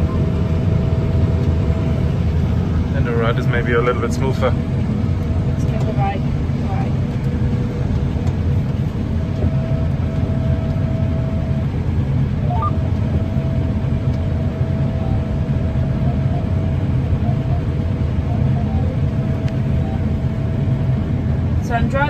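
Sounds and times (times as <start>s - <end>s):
combine harvester rumble: 0.0s - 22.0s
thin steady whine: 0.0s - 22.0s.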